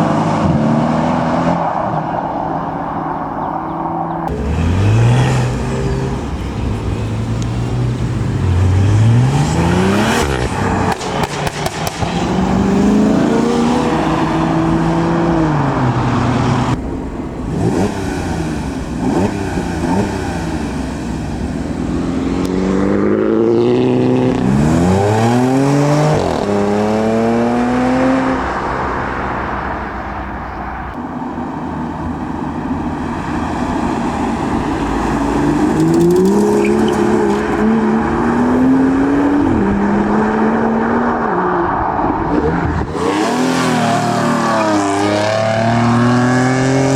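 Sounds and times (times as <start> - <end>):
car engines revving and accelerating: 0.0 - 46.9.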